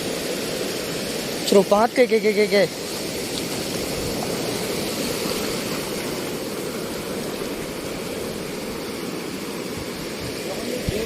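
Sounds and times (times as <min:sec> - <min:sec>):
surf washing over rocky shore: 0:00.0 - 0:11.0.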